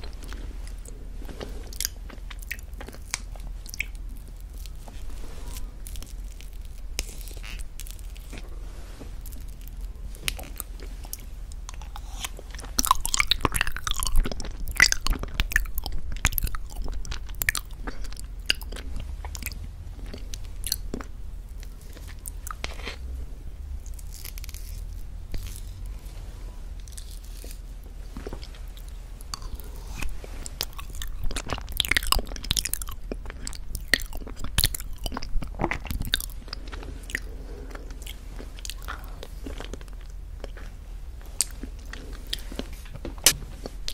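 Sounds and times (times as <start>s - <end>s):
crisp crunching and crackling: 0.0s - 43.9s.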